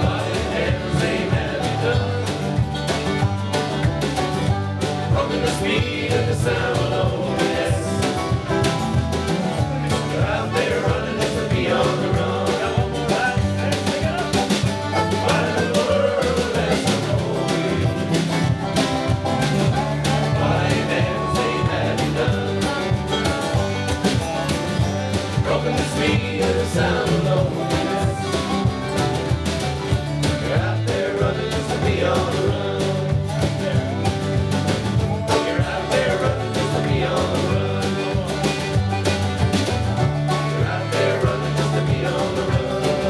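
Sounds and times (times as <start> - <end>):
band playing country music: 0.0 - 43.0.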